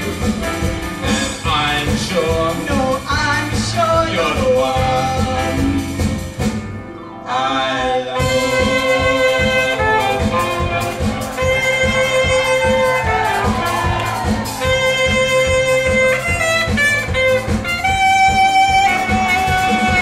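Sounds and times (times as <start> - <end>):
band with strings playing: 0.0 - 20.0.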